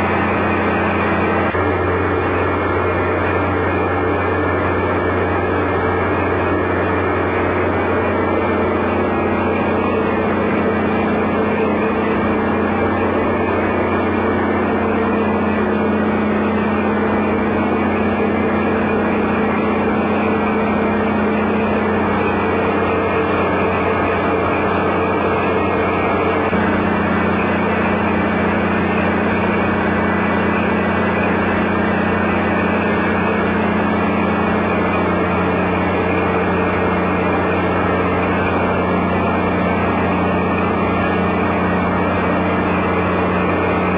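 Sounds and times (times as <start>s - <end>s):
diesel engine humming: 0.0s - 43.9s.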